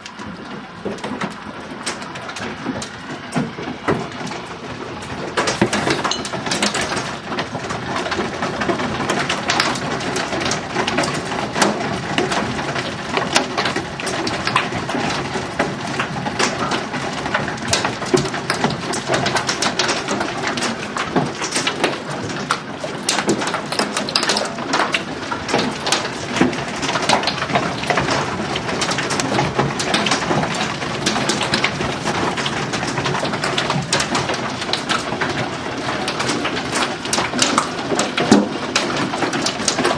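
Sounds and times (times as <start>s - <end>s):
hailstones striking hard surfaces: 0.0s - 39.9s.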